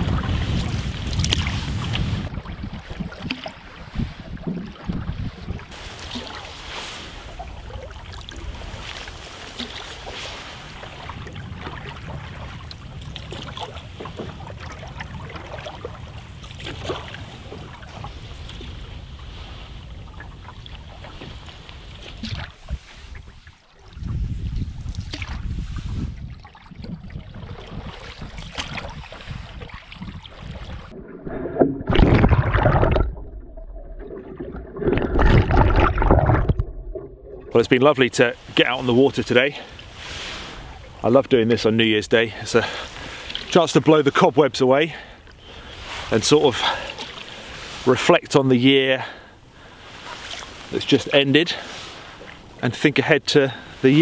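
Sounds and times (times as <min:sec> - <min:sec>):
paddle splashing in water: 0:00.0 - 0:41.6, 0:42.4 - 0:44.2, 0:44.9 - 0:48.2, 0:49.0 - 0:52.6
wind rumbling on microphone: 0:00.0 - 0:43.2.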